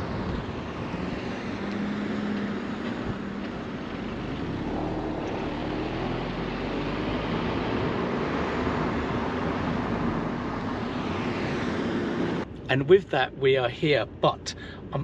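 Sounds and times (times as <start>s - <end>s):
road and tyre noise: 0.0s - 15.0s.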